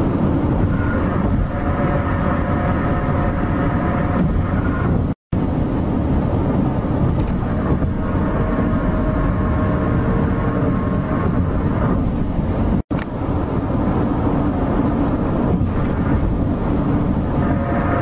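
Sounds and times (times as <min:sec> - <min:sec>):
loud rumbling drone: 0:00.0 - 0:18.0.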